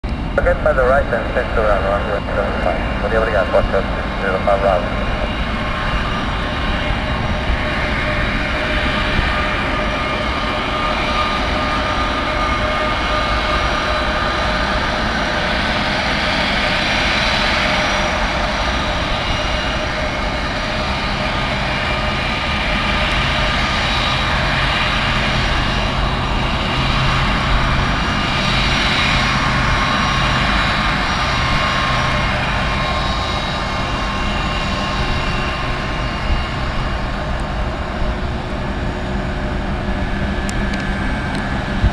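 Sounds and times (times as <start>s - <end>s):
jet engines with high whine: 0.0s - 41.9s.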